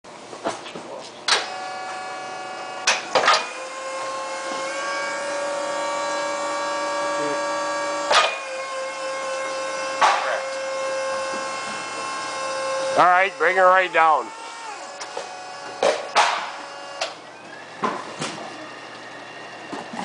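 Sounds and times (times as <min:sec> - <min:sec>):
hydraulic pump motor whining: 0:01.3 - 0:20.0.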